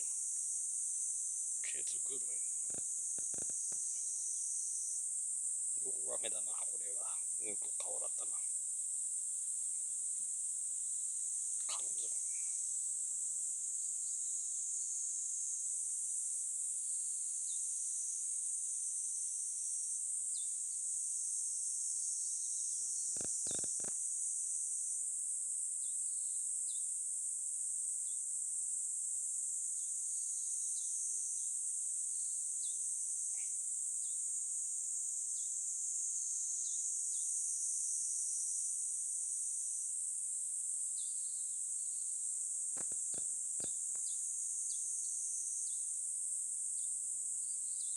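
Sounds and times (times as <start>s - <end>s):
insects chorus: 0.0s - 47.9s.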